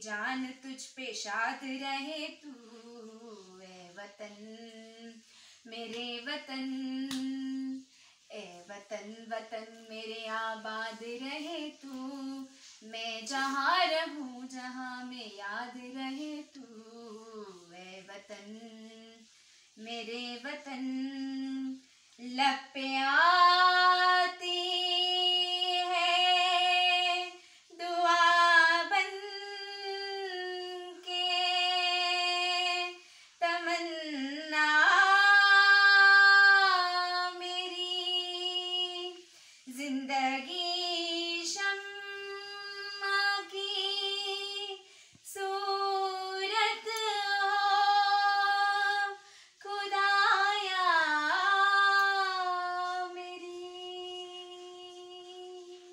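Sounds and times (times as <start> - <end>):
woman singing unaccompanied: 0.0 - 55.9.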